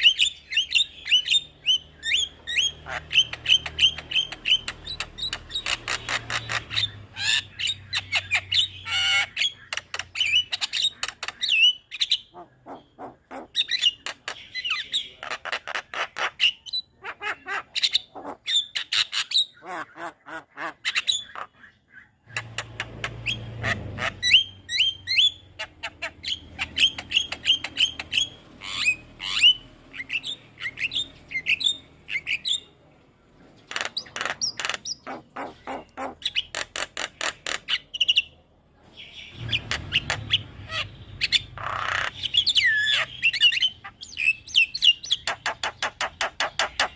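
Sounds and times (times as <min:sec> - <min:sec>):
bird chattering and whistling: 0:00.0 - 0:32.8, 0:33.6 - 0:46.9.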